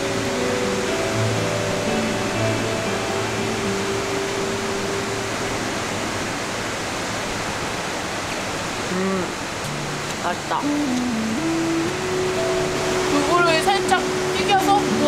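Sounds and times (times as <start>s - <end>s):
stream rushing: 0.0s - 15.0s.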